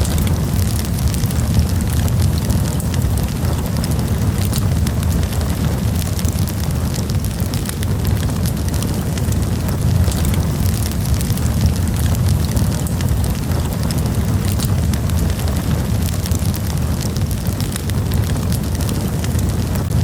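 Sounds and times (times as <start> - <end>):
flames rumbling: 0.0 - 20.0
wood crackling and popping: 0.0 - 20.0.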